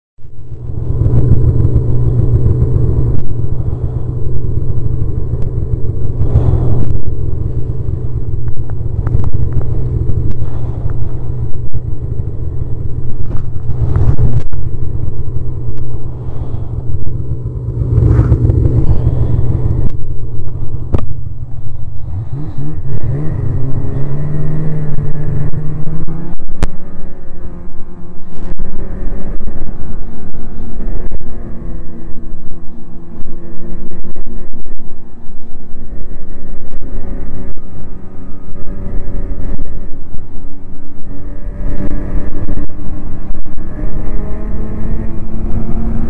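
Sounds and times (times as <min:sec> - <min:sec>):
snowmobile engine running: 0:00.2 - 0:46.0
wind rumble on microphone: 0:00.2 - 0:46.0.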